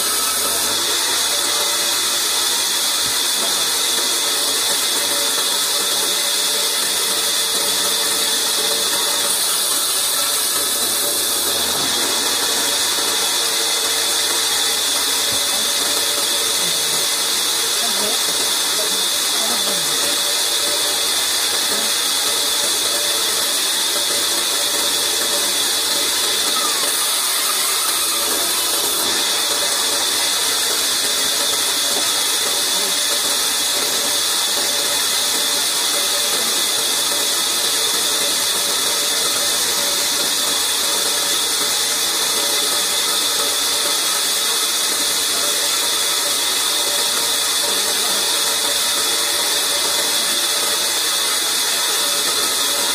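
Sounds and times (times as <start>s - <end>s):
band saw whirring: 0.0s - 52.9s.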